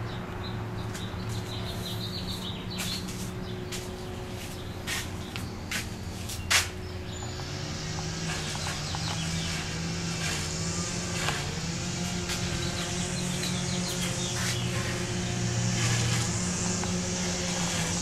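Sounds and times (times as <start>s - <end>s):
low motor drone: 0.0s - 18.0s.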